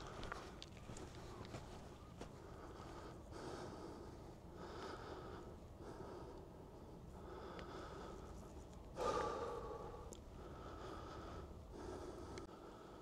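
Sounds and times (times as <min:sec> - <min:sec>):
person breathing: 0:02.4 - 0:13.0.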